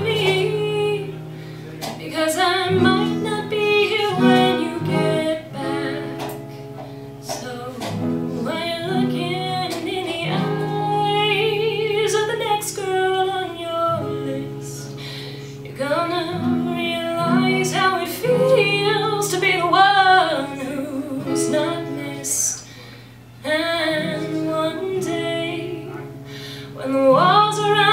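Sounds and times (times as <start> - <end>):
woman singing: 0.0 - 22.7, 23.4 - 27.9
acoustic guitar chords: 0.0 - 27.9.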